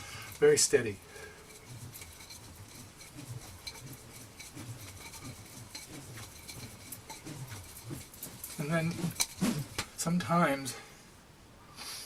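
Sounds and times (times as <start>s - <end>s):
nunchaku swishing: 0.2s - 10.3s.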